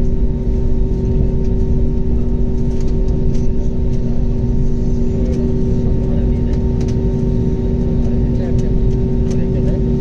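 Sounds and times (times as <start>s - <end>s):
jet aircraft engine rumble: 0.0s - 10.0s.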